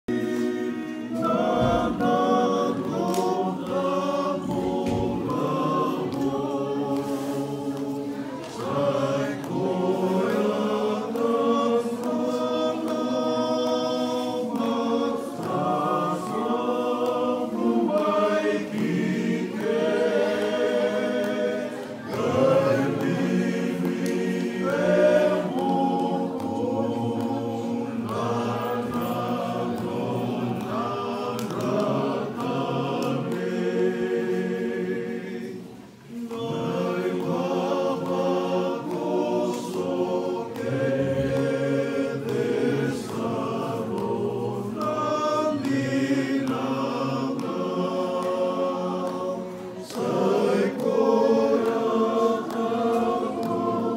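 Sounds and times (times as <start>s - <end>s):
group of voices singing: 0.0s - 53.9s.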